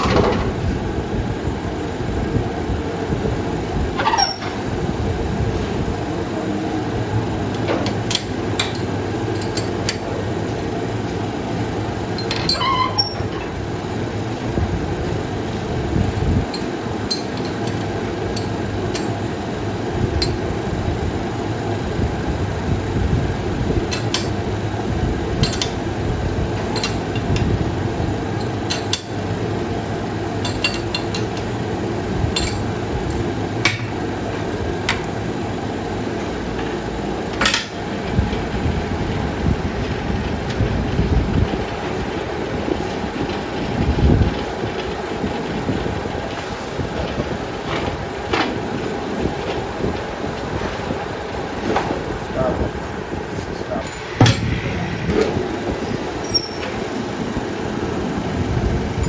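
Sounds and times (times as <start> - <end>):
machine rumbling: 0.0 - 59.0.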